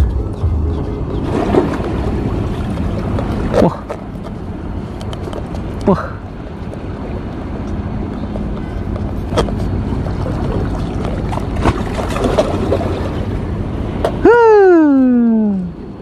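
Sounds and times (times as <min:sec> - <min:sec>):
sea water against rocks: 0:00.0 - 0:14.3
wind: 0:00.0 - 0:16.0.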